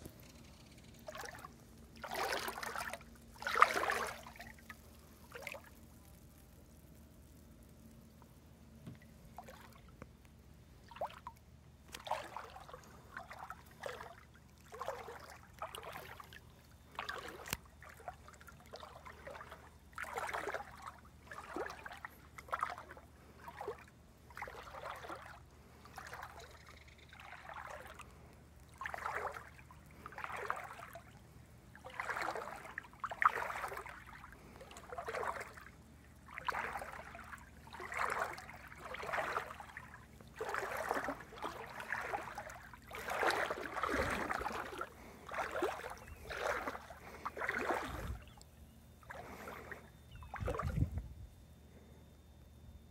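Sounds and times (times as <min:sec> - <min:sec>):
footsteps splashing in water: 0:01.0 - 0:05.8, 0:08.9 - 0:10.0, 0:10.8 - 0:51.0.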